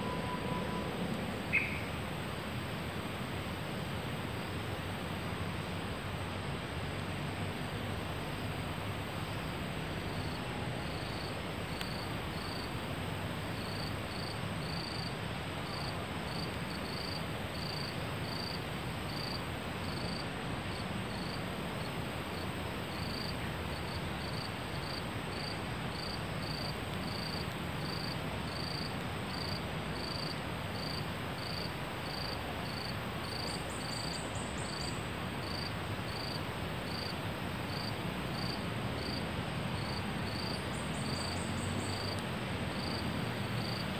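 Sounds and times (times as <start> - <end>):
insect chirping: 0.0 - 3.0, 9.1 - 12.8, 13.5 - 37.1, 37.7 - 39.2, 39.8 - 42.2, 42.8 - 43.9
constant hiss: 0.0 - 43.9.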